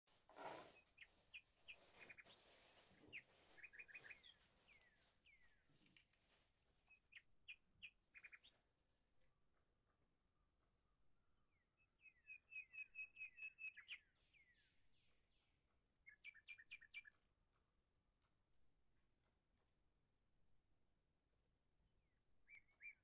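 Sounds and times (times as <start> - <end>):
small birds chirping: 0.2 - 19.8, 22.4 - 23.0.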